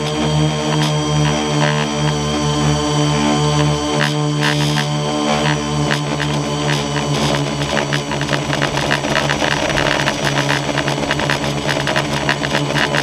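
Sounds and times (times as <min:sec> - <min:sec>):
drone motors and propellers humming: 0:00.0 - 0:13.0.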